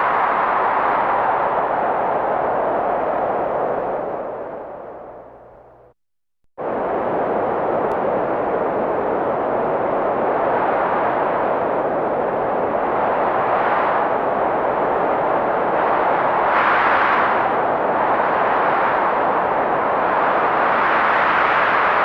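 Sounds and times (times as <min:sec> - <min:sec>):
blizzard wind rushing: 0:00.0 - 0:05.6, 0:06.6 - 0:22.0.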